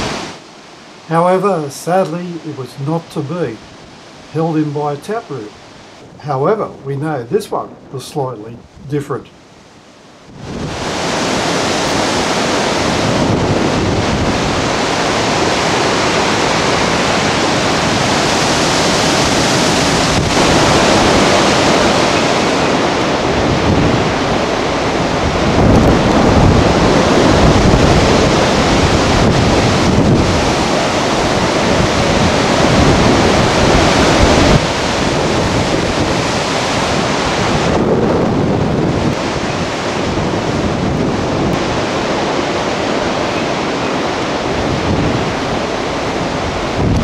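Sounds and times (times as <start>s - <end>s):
storm wind rushing through trees: 0.0s - 47.0s
wind buffeting microphone: 2.3s - 47.0s.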